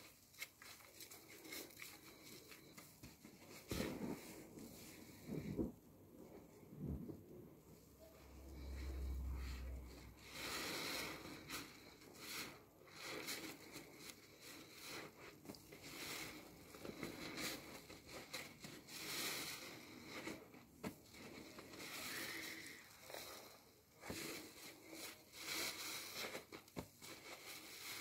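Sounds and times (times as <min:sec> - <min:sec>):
sponge squelching in soapy lather: 0:00.0 - 0:05.7, 0:08.6 - 0:28.0.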